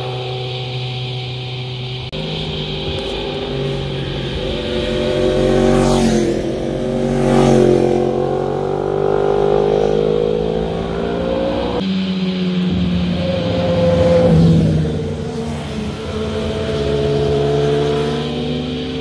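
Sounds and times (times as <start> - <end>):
motorcycles passing by: 0.0 - 19.0.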